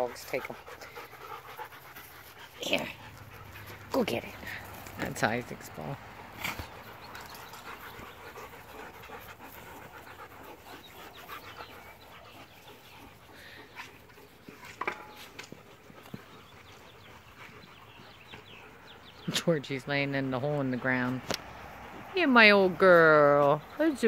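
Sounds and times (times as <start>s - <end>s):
dogs panting: 0.0s - 24.0s.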